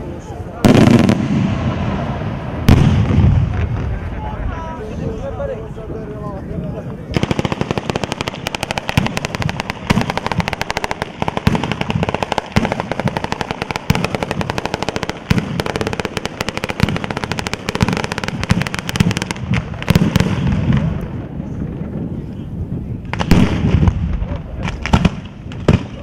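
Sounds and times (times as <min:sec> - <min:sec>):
heavy firework bangs: 0:00.6 - 0:04.2, 0:07.1 - 0:22.2, 0:23.0 - 0:26.0
firecrackers cracking rapidly: 0:00.6 - 0:04.5, 0:06.9 - 0:22.3, 0:23.0 - 0:26.0.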